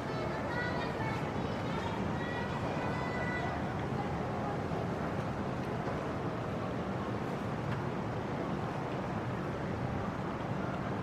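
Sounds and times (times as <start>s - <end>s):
low rumbling outdoor ambience: 0.0s - 11.0s.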